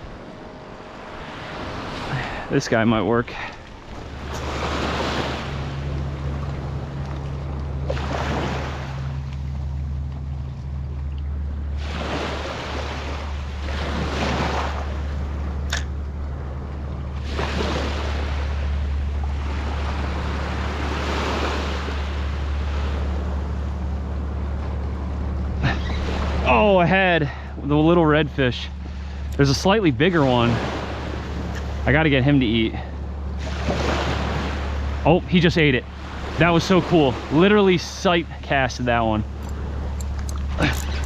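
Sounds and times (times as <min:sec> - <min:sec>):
ocean surf washing onto beach: 0:00.0 - 0:10.2, 0:11.7 - 0:16.0, 0:17.1 - 0:24.6, 0:25.5 - 0:32.8, 0:33.4 - 0:41.0.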